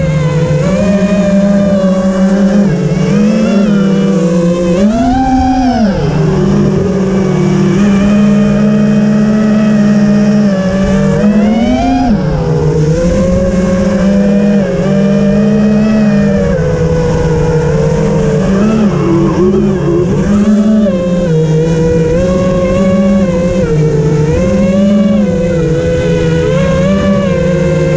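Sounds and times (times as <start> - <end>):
vehicle engine running: 0.0 - 27.9
wind buffeting microphone: 0.0 - 27.9.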